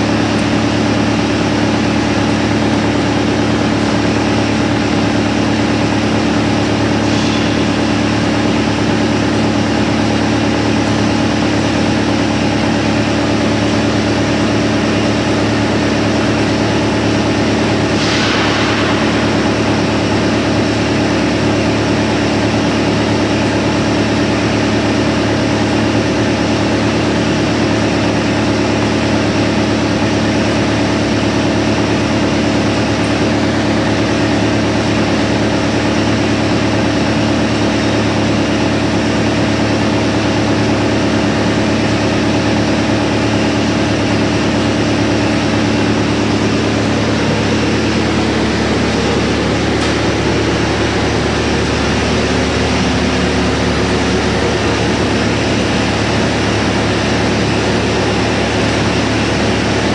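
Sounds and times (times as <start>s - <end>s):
wood chipper humming: 0.0s - 59.9s.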